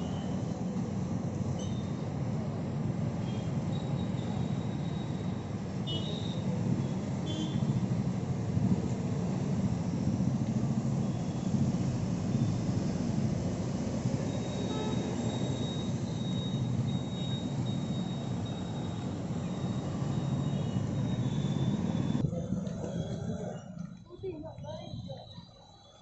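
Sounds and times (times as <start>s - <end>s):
traffic engine and tyre rumble: 0.0s - 26.0s.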